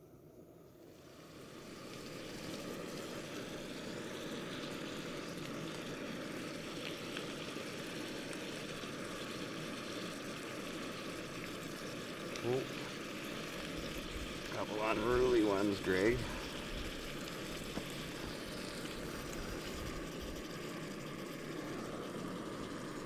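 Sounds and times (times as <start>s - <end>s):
camp stove burner running: 0.0s - 23.0s.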